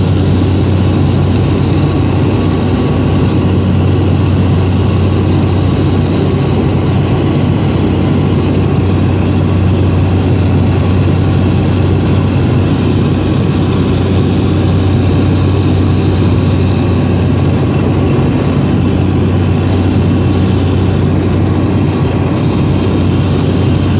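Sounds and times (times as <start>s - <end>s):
light aircraft engine droning: 0.0s - 23.9s.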